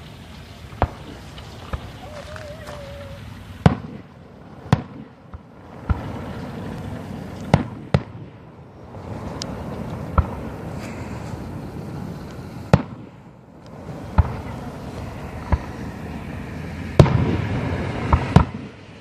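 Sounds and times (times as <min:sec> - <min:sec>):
continuous rumble: 0:00.0 - 0:19.0
firework shells bursting: 0:00.4 - 0:08.4, 0:09.0 - 0:18.8.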